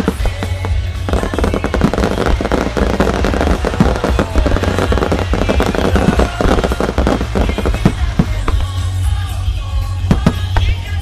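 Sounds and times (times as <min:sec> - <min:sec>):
firework bangs and crackle: 0:00.0 - 0:11.0.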